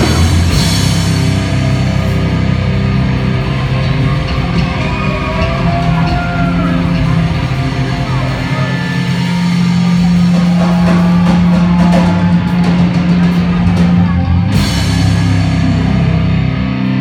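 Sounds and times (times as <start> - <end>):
electric guitars and bass: 0.0 - 17.0
pounding drum kit: 0.0 - 17.0.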